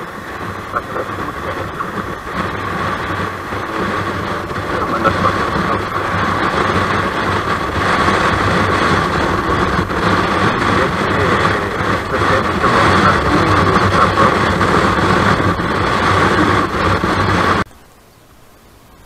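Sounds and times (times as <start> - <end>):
motorcycle engine cruising: 0.0 - 17.6
wind rushing over microphone: 0.0 - 17.7.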